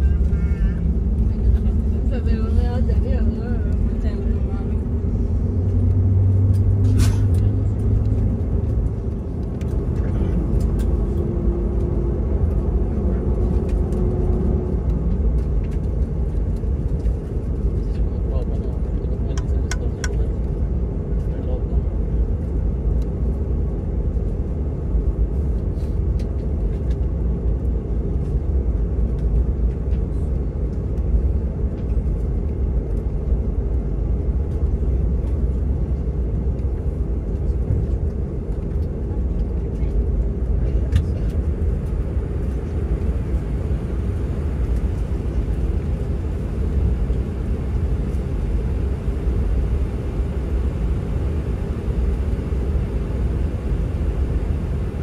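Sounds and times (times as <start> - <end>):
aircraft engine rumble: 0.0 - 55.0.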